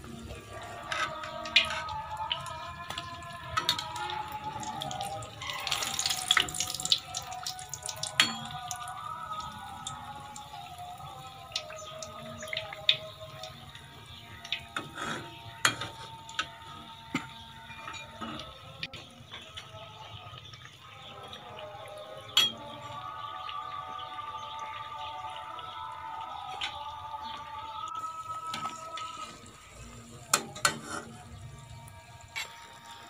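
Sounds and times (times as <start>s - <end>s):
deep-frying sizzle with pops: 0.0s - 33.0s
soft background music: 0.0s - 33.0s.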